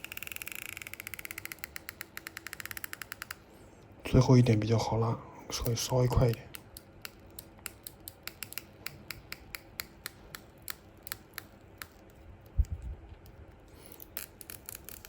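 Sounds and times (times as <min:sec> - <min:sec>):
adhesive strip crackling: 0:00.0 - 0:03.4, 0:06.2 - 0:15.0.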